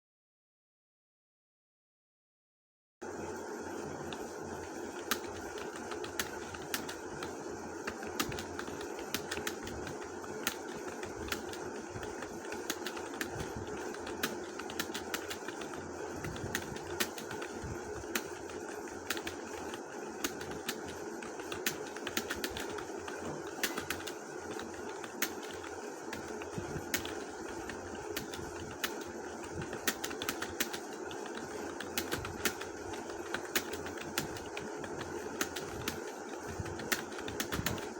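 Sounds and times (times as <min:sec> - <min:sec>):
phone keyboard typing clicks: 0:05.0 - 0:37.9.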